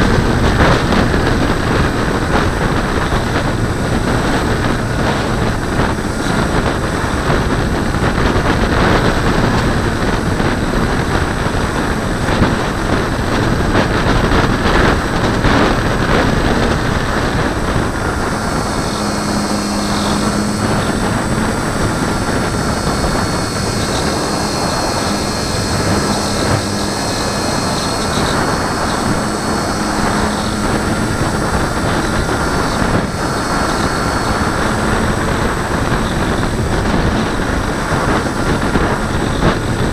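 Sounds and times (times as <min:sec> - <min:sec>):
airflow rushing over camera: 0:00.0 - 0:39.9
faint steady tones: 0:00.0 - 0:39.9.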